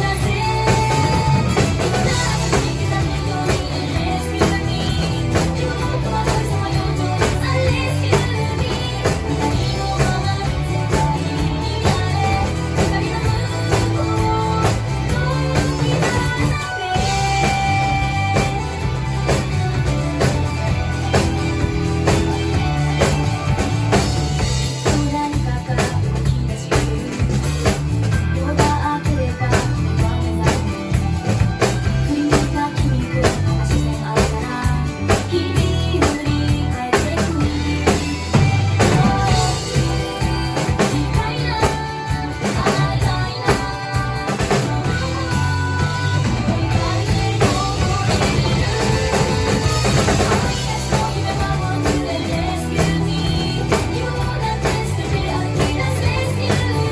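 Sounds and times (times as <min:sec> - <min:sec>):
drum kit beat: 0:00.0 - 0:56.9
person singing: 0:00.0 - 0:56.9
pop-rock band track: 0:00.0 - 0:56.9.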